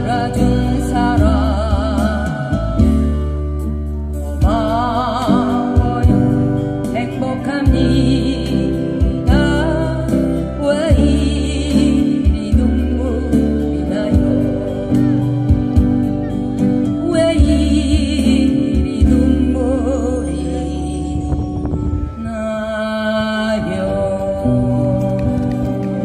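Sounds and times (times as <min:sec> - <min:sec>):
strummed acoustic guitars: 0:00.0 - 0:21.4
woman singing with vibrato: 0:00.0 - 0:26.0.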